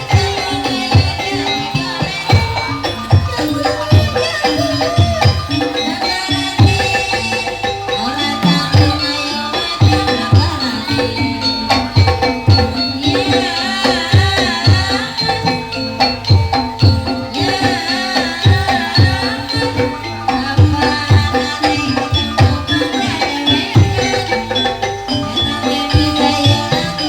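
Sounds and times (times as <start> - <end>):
hand drums beating: 0.0 - 27.0
high wavering melody: 0.0 - 27.0
ringing metallophone tones: 0.0 - 27.0.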